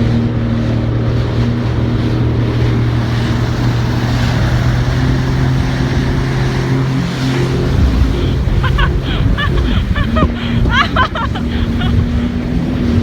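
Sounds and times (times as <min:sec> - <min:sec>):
jet ski engine running: 0:00.0 - 0:13.0
wind and water rushing: 0:00.0 - 0:13.0.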